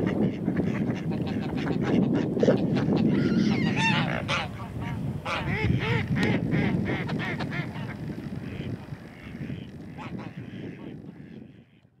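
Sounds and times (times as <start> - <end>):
ducks quacking: 0.0 - 11.8
geese honking: 0.0 - 11.8.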